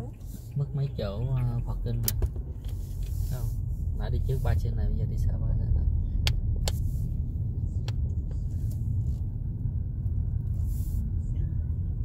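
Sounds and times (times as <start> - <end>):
car driving rumble from cabin: 0.0 - 12.0.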